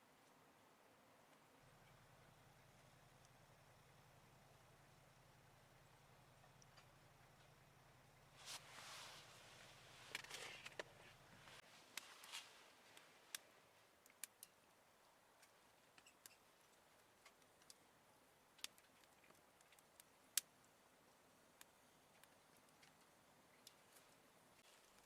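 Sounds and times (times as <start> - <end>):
faint clicks and ticks: 1.3 - 8.0, 10.1 - 25.0.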